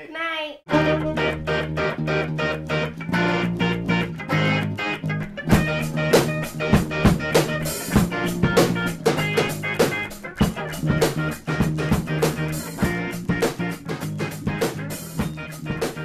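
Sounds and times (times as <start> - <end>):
music with drums and guitar: 0.7 - 16.0.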